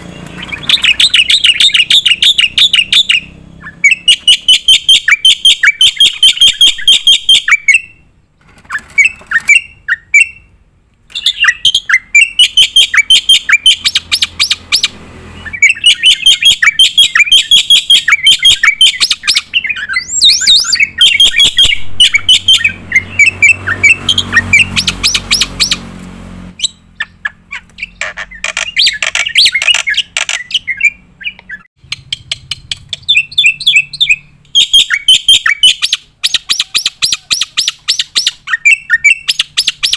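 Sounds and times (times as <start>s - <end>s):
bird singing sharp repeated notes: 0.0s - 39.9s.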